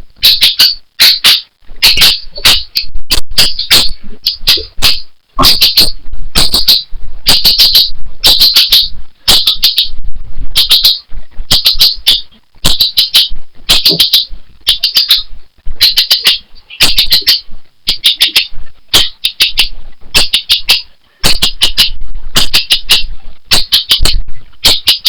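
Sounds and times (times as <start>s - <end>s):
bird-like chirping: 0.2s - 25.0s.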